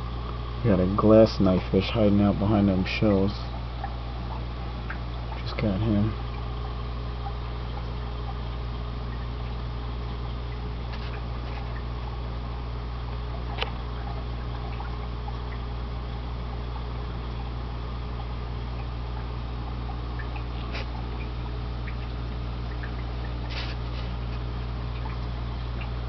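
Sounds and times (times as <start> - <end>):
aquarium equipment humming: 0.0 - 26.0
water trickling and bubbling: 0.0 - 26.0.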